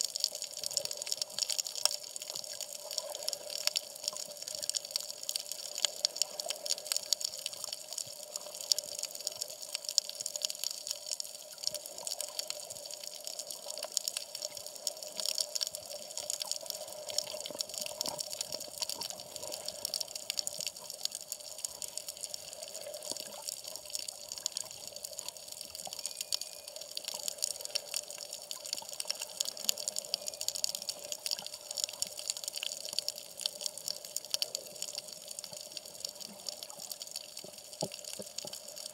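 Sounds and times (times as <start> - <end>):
dense crackle of tiny clicks: 0.0 - 38.9.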